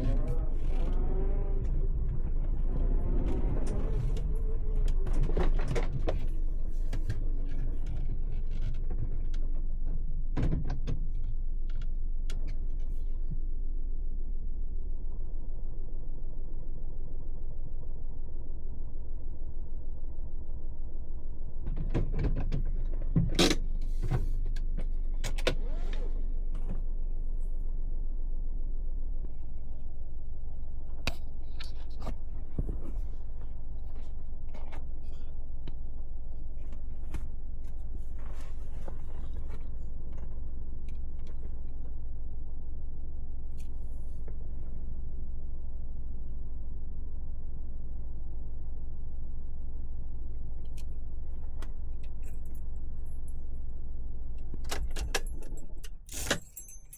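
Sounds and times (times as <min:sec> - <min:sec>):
van rumbling on road: 0:00.0 - 0:56.4.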